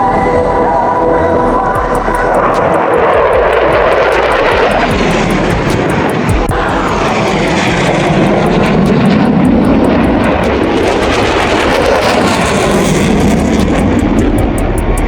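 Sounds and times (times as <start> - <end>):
aircraft engine in flight: 0.0 - 15.0.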